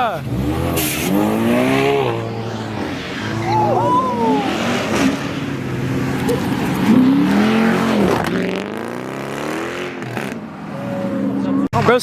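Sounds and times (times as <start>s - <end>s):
car engine revving past: 0.0s - 11.7s.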